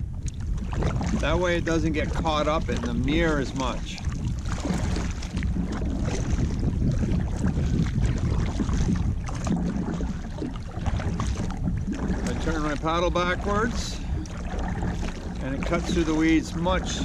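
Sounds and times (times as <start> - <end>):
kayak paddle splashing through water: 0.0 - 17.0
wind rumble on microphone: 0.0 - 17.0.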